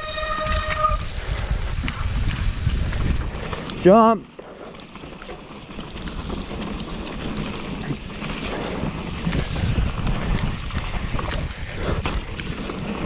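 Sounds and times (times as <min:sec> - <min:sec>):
wind buffeting microphone: 0:00.0 - 0:04.1, 0:04.9 - 0:13.0
bike chain and frame rattling: 0:00.0 - 0:13.0.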